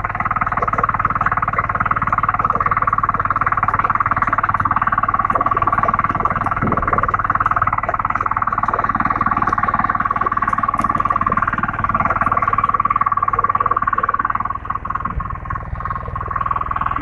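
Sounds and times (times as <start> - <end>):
tiller engine running: 0.0 - 17.0
tines churning soil: 0.0 - 17.0.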